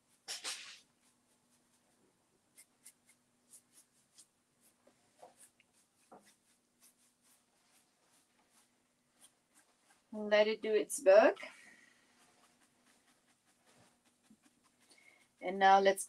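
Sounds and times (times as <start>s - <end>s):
paintbrush dabbing on metal: 0.0s - 16.0s.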